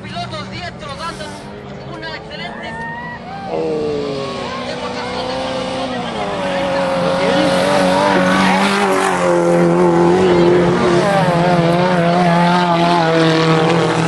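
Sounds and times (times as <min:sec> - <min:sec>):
race car engines at high revs: 0:00.0 - 0:14.0.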